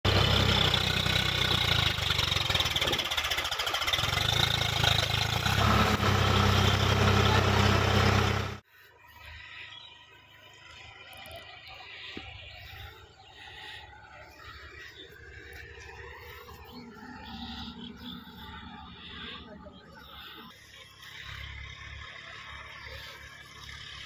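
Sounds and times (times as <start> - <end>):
faint outdoor background: 0.0 - 24.0
tractor diesel engine under load: 0.0 - 24.0.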